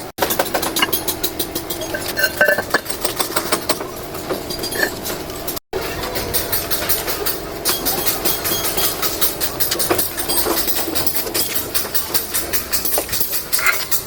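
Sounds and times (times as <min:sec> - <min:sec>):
machine clattering: 0:00.0 - 0:14.0
machine humming: 0:00.0 - 0:14.0.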